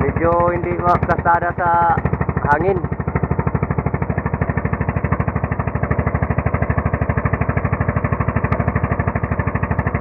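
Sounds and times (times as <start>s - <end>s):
boat engine puttering: 0.0s - 10.0s.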